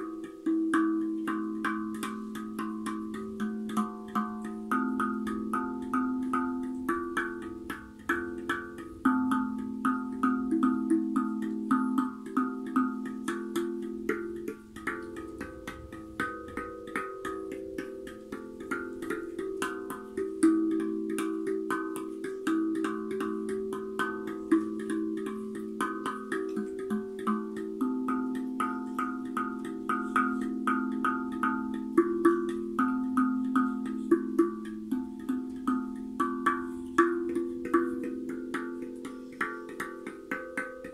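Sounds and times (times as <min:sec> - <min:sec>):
hand-played steel drum: 0:00.0 - 0:40.9.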